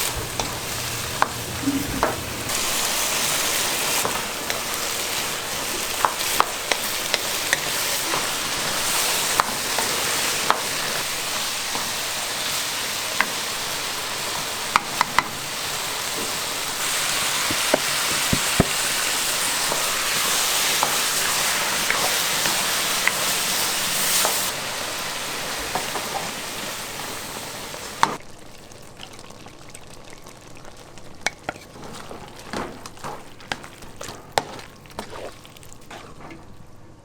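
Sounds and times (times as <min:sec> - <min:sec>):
food frying sizzle: 0:00.0 - 0:37.0.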